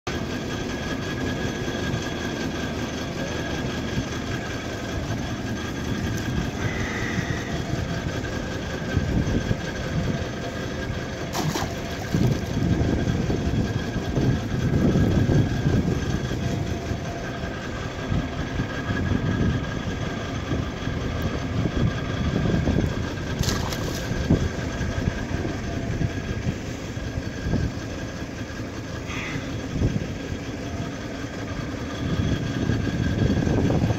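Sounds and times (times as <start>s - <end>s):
drilling engine running: 0.1s - 33.9s.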